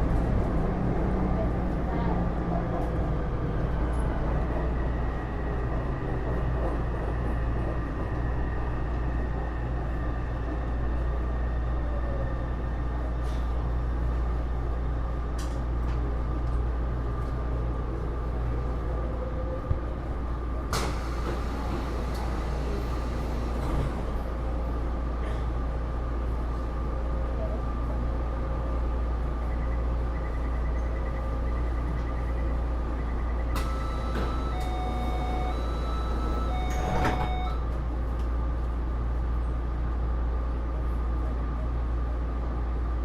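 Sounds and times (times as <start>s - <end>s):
wheels rumbling on track: 0.0s - 43.0s.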